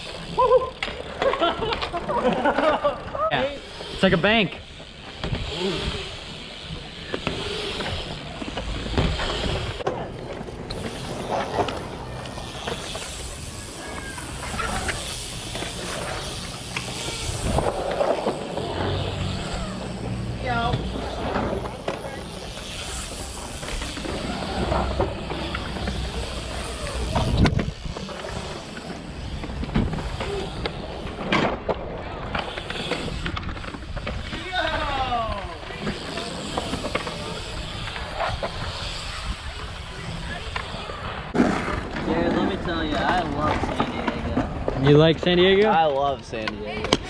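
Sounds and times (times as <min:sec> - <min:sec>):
bike tyres rolling on concrete: 0:00.0 - 0:47.0.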